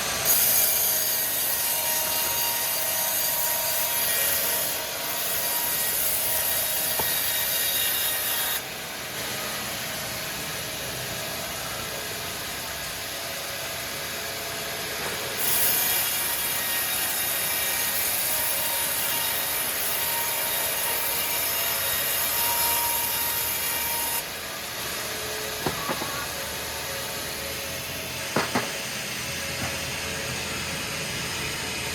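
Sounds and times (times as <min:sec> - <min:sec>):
sawmill saw cutting timber: 0:00.0 - 0:10.9, 0:11.6 - 0:31.9.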